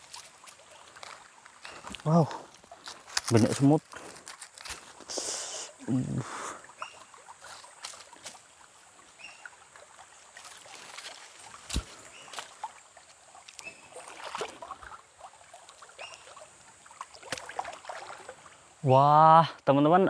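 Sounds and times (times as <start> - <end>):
feet splashing in a stream: 0.0 - 18.8.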